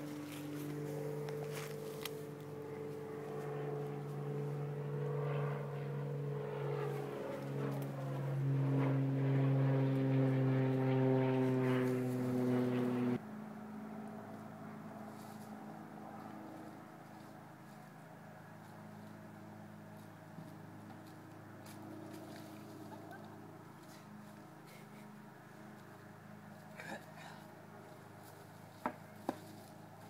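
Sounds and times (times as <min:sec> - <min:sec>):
motor engine humming: 0:00.0 - 0:30.0.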